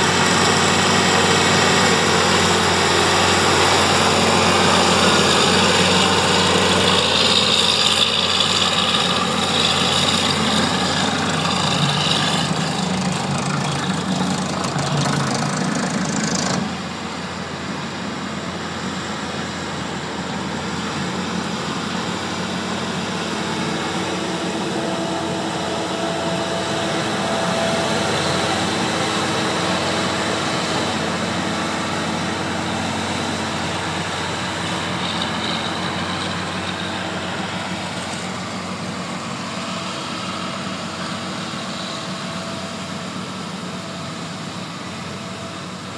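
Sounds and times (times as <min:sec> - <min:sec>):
diesel engine running close by: 0:00.0 - 0:45.9
distant earthmoving machines droning: 0:00.0 - 0:45.9.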